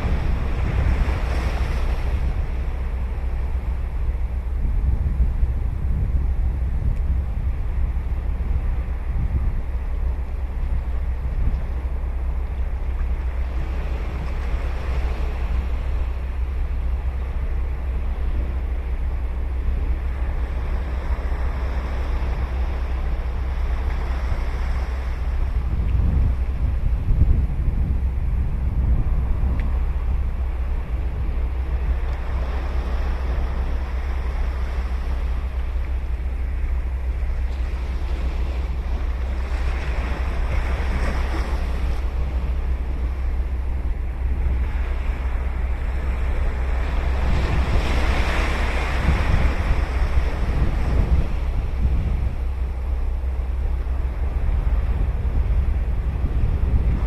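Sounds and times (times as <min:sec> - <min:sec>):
ocean waves breaking: 0:00.0 - 0:57.0
wind rumble on microphone: 0:00.0 - 0:57.0.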